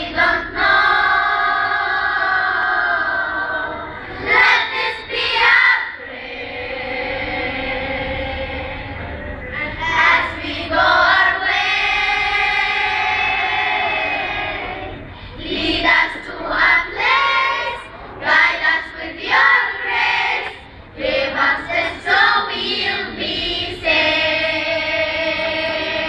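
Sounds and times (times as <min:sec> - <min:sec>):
children's choir singing: 0:00.0 - 0:26.0.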